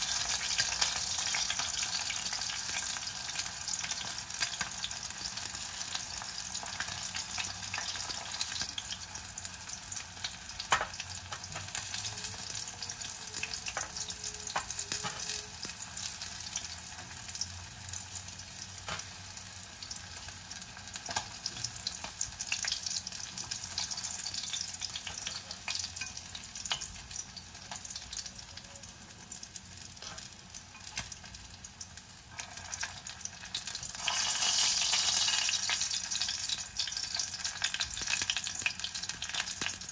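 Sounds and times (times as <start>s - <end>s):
fish deep-frying in oil: 0.0s - 39.9s.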